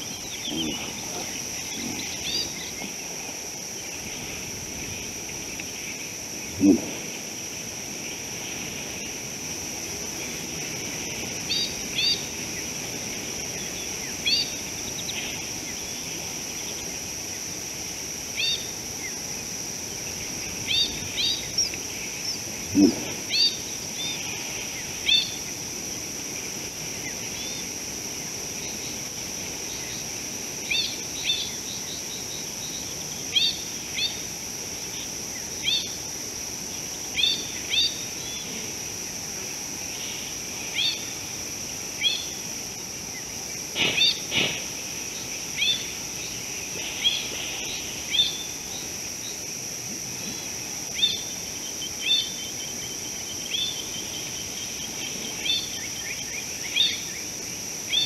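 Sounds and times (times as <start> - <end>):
insect trill: 0.0 - 58.0.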